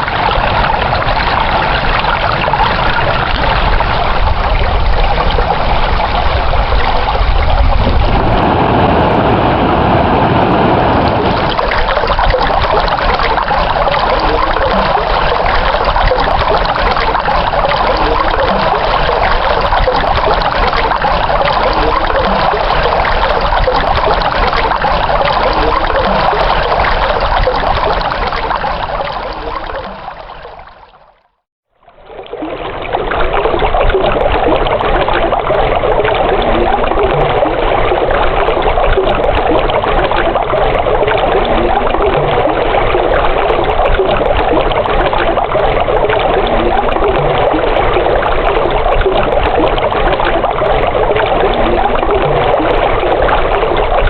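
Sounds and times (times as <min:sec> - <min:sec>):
running water flowing: 0:00.0 - 0:54.0.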